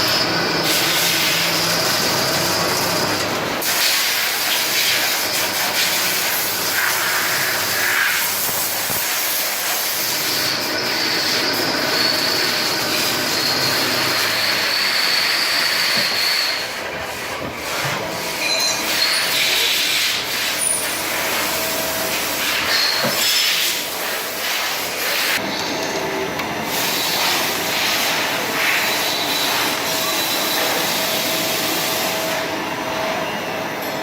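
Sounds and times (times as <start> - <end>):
machine tool cutting metal hiss: 0.0 - 25.7, 26.7 - 32.5.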